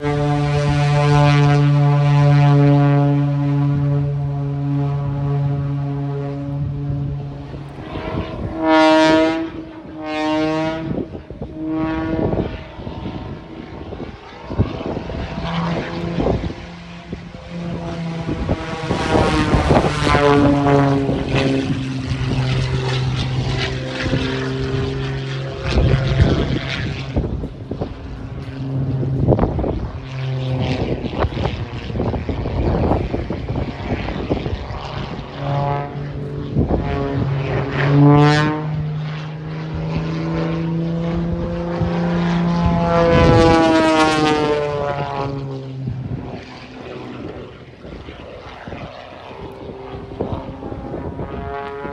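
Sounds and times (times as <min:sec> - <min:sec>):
propeller plane engine droning: 0:00.0 - 0:51.9.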